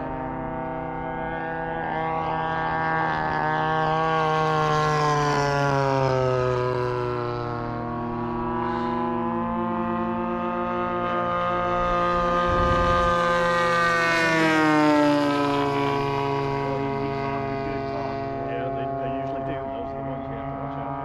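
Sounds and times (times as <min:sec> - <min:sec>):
model airplane engines droning: 0:00.0 - 0:21.0.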